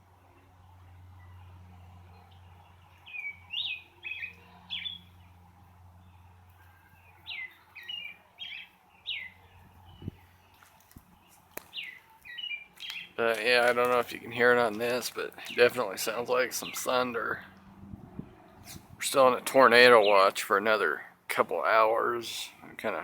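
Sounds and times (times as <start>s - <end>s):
songbird chirping: 0.2s - 23.0s.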